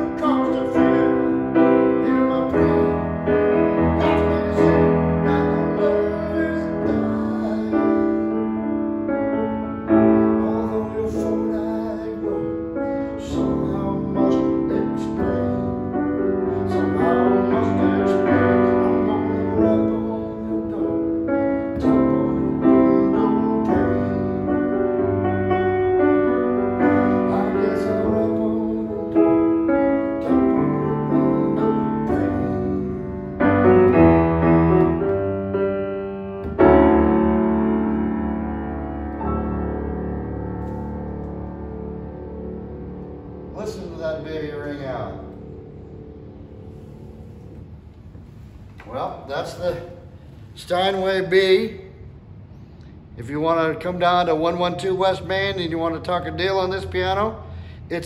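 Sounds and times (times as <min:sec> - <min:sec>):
solo grand piano: 0:00.0 - 0:51.3.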